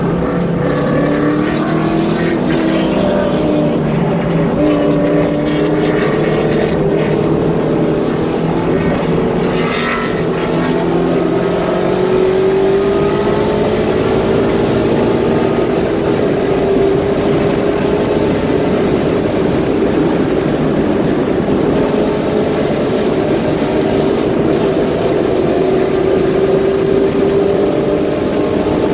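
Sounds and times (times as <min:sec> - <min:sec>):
car engine and exhaust running: 0:00.0 - 0:28.9.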